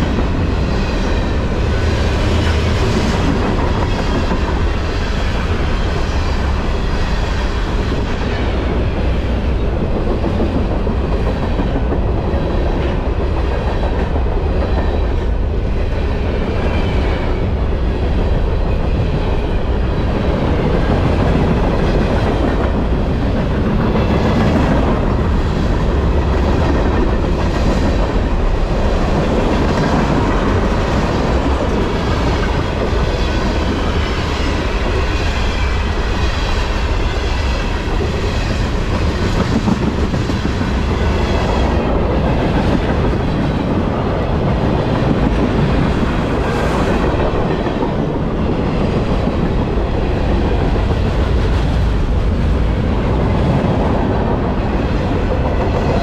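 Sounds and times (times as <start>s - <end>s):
clickety-clack of train cars: 0.0s - 56.0s
freight train wheels rumbling: 0.0s - 56.0s.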